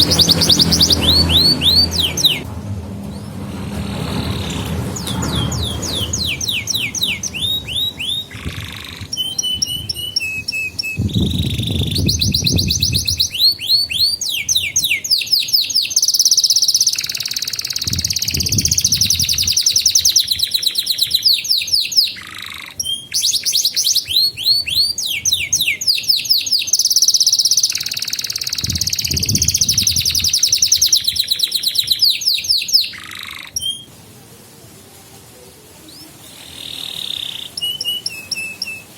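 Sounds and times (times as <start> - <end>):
canary singing trills: 0.0 - 2.5, 3.2 - 33.9, 35.9 - 38.9.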